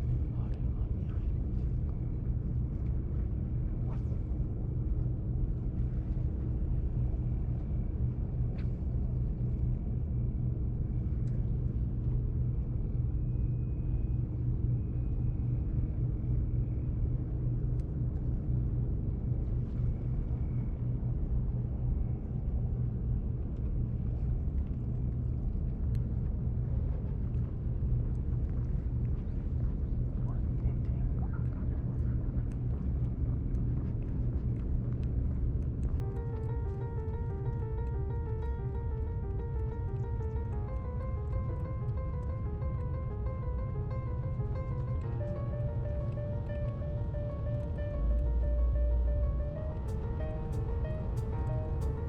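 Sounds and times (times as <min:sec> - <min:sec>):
low engine-like drone: 0:00.0 - 0:52.0.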